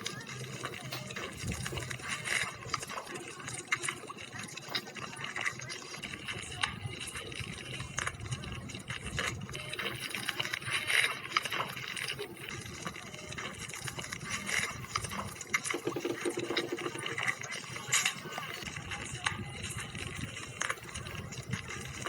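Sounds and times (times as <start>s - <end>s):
wet chewing and slurping: 0.0s - 22.0s.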